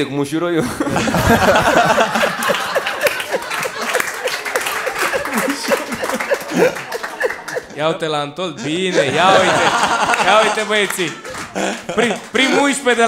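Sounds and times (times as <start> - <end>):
group of people laughing: 0.6 - 7.9, 8.6 - 13.0
people clapping: 1.0 - 7.8, 9.2 - 13.0.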